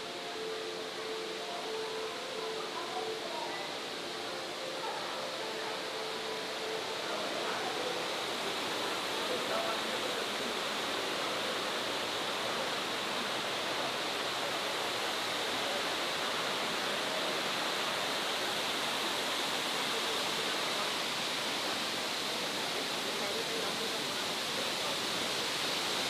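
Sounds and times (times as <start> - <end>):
waterfall roaring: 3.4 - 26.0.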